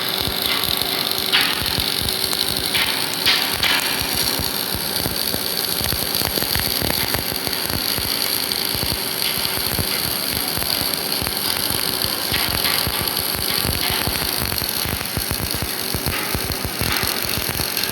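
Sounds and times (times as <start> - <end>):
welding arc crackling: 0.0 - 17.9.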